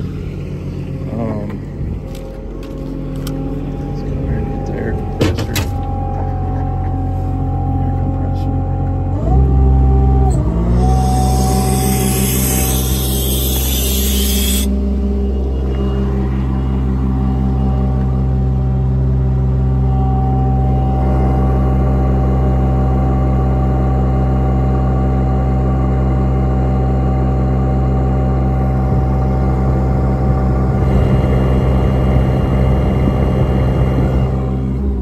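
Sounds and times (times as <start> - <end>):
engine drone with faint whine: 0.0 - 35.0.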